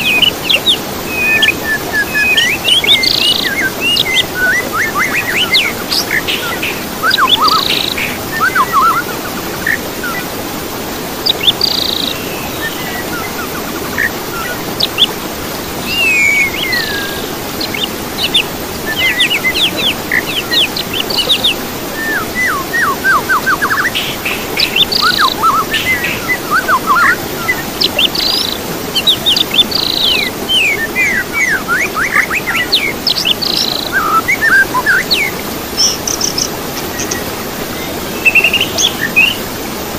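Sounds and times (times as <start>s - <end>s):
songbirds singing: 0.0s - 10.4s, 11.1s - 39.6s.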